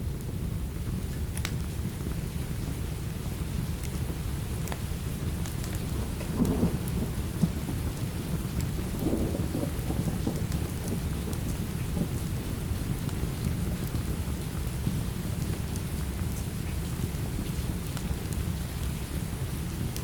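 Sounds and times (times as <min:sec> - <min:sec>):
steady rain: 0:00.0 - 0:20.0
small crackles and ticks: 0:00.1 - 0:20.0
low rumble of thunder: 0:02.6 - 0:20.0.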